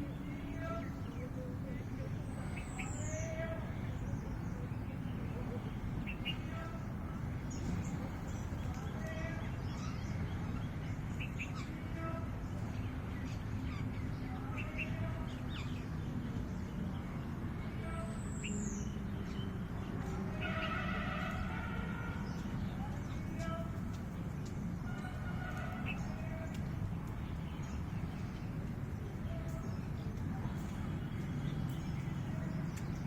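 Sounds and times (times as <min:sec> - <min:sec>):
small birds chirping: 0:00.0 - 0:20.3, 0:22.1 - 0:33.0.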